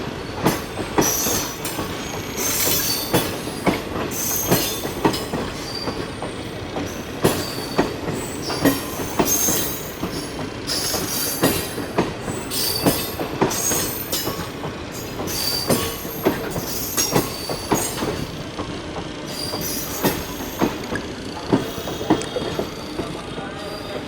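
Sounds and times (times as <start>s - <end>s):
train wheels knocking on rail joints: 0.0s - 23.5s.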